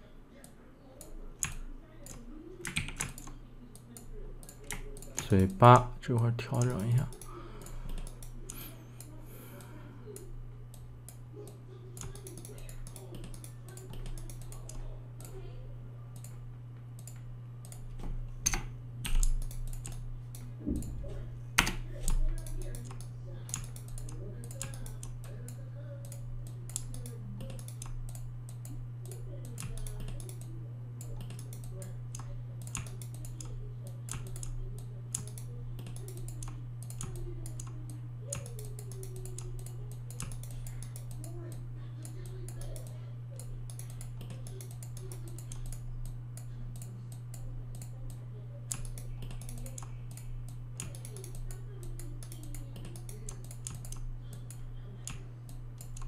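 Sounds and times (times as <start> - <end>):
keyboard and mouse clicking: 0.4 - 5.6, 6.5 - 15.4, 17.0 - 21.0, 21.6 - 56.0.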